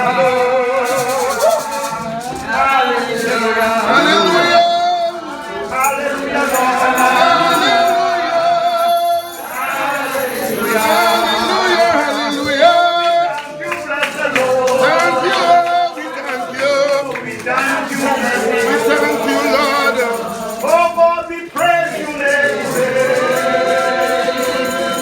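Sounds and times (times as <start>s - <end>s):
congregation singing a hymn: 0.0s - 25.0s.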